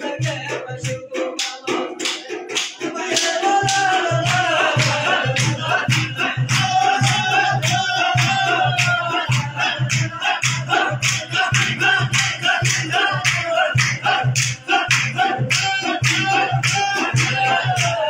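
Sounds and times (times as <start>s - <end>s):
low rhythmic beats: 0.0s - 18.0s
men singing in a group: 0.0s - 18.0s
hand-clapping: 0.2s - 18.0s.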